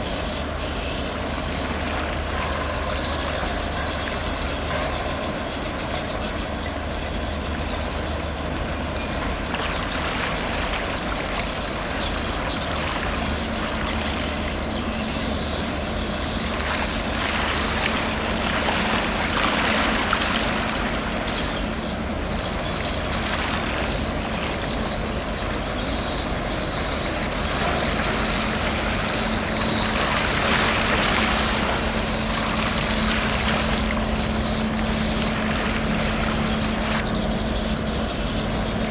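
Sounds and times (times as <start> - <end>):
constant hum: 0.0 - 38.9
ship diesel engine drone: 0.0 - 38.9.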